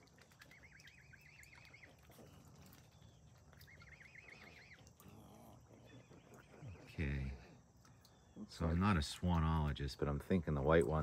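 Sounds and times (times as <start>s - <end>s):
cygnets peeping: 0.0s - 9.3s.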